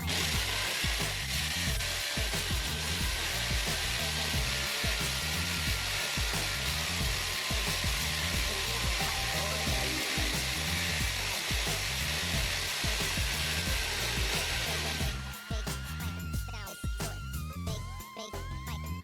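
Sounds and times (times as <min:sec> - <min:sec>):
power drill boring through wall: 0:00.0 - 0:16.2
background music with beat: 0:00.0 - 0:19.0.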